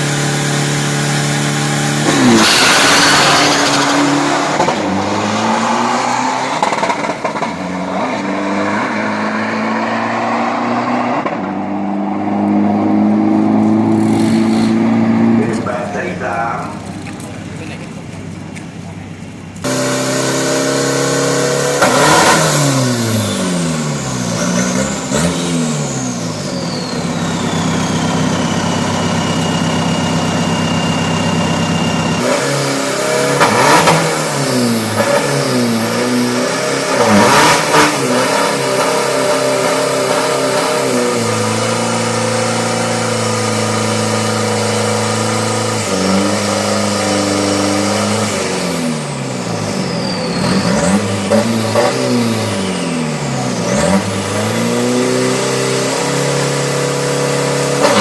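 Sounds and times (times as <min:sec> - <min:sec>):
pickup engine revving: 0:00.0 - 0:18.2, 0:19.6 - 0:58.0.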